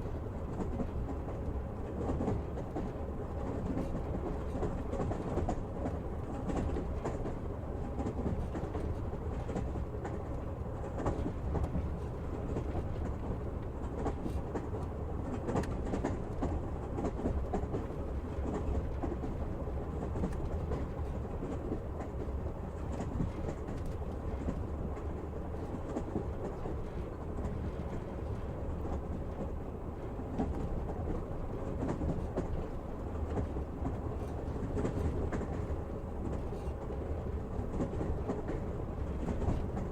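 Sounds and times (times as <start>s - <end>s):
train rumble inside carriage: 0.0s - 39.9s.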